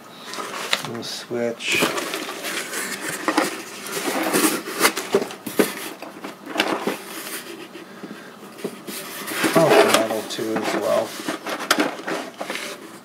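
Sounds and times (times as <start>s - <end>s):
plastic bags crinkling: 0.2s - 7.5s, 8.9s - 13.0s.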